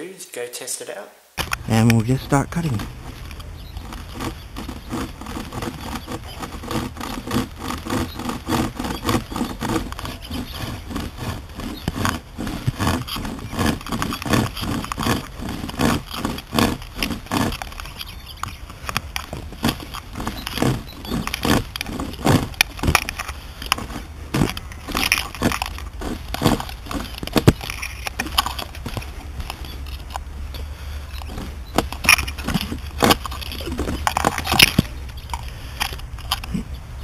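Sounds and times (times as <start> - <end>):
chain saw sawing through wood: 1.7 - 36.6.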